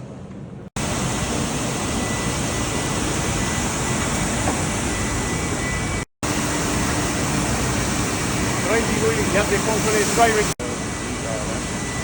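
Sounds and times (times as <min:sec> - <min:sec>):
faint steady hum: 0:00.8 - 0:12.0
washing machine rushing noise: 0:00.8 - 0:12.0.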